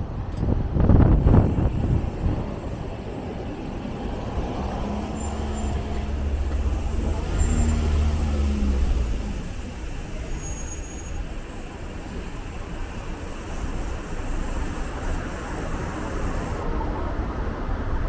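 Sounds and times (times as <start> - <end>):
road traffic: 0.0 - 18.0
heavy vehicle engine humming: 0.9 - 17.6.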